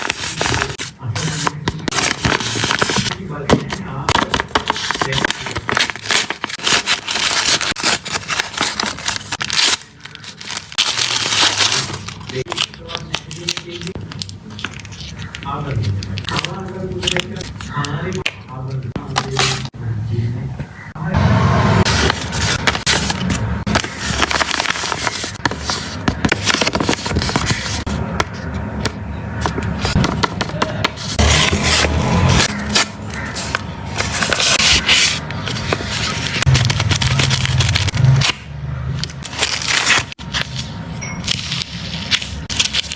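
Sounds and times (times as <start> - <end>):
plastic packaging crinkling: 0.0 - 18.4, 21.9 - 28.6, 29.4 - 38.4, 39.0 - 42.9.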